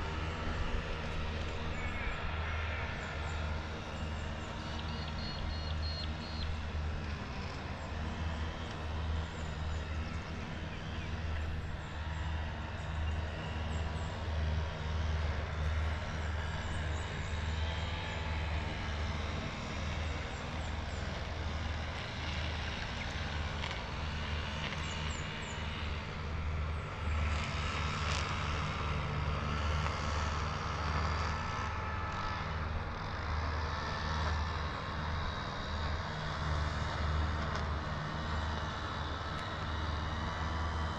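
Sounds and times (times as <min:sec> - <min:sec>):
road and traffic hiss: 0:00.0 - 0:40.9.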